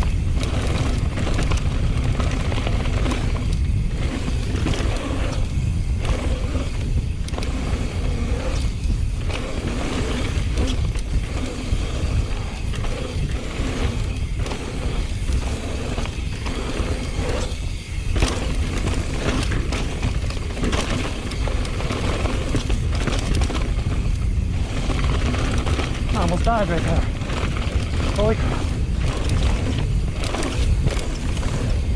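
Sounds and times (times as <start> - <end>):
bike clattering over bumps: 0.0 - 31.9
bike tyre noise: 0.0 - 31.9
wind rushing over microphone: 0.0 - 31.9.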